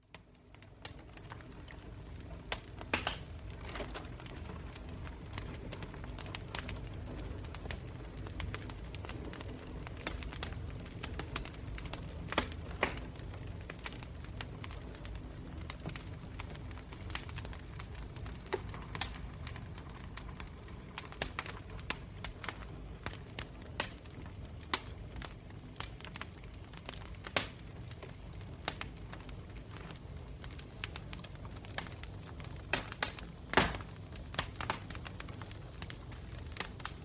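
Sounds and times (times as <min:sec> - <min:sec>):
fire crackling and popping: 0:00.0 - 0:37.0.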